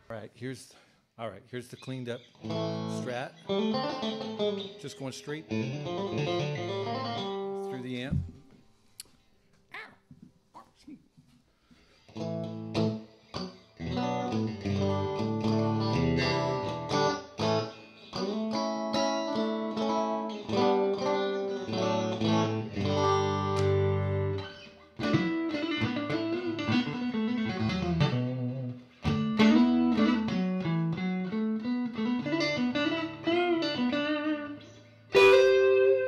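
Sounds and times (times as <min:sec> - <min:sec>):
clean electric guitar: 0:01.8 - 0:09.1, 0:12.0 - 0:36.0.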